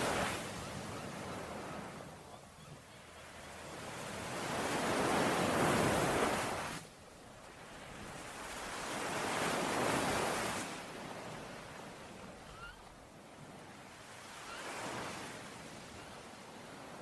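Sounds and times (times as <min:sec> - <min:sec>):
ocean waves on shore: 0:00.0 - 0:17.0.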